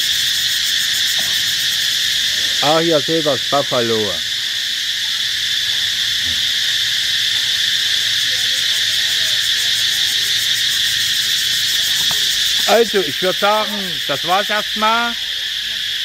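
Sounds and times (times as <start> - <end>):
insects buzzing chorus: 0.0 - 16.0.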